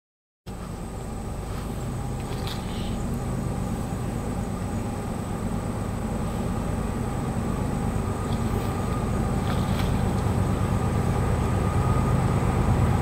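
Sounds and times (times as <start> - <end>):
diesel locomotive engine rumble: 0.5 - 13.0.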